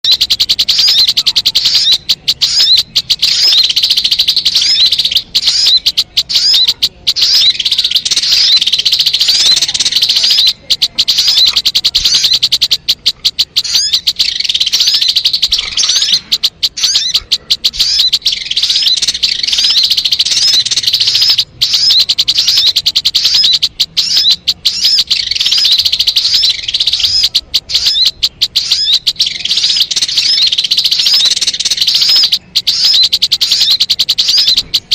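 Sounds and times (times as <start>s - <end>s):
bird chirping rapidly: 0.0s - 34.9s.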